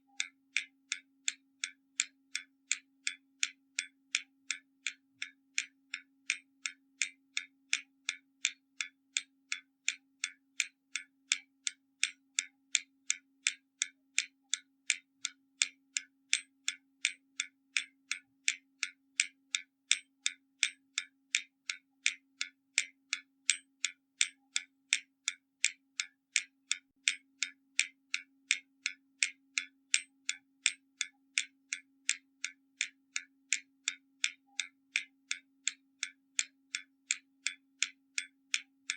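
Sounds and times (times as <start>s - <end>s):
mechanical clock ticking: 0.0s - 38.9s.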